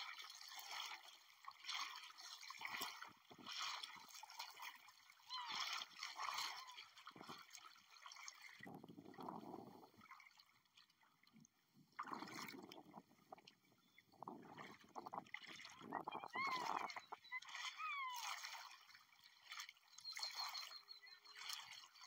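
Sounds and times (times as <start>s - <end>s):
seawater sloshing and splashing: 0.0s - 22.0s.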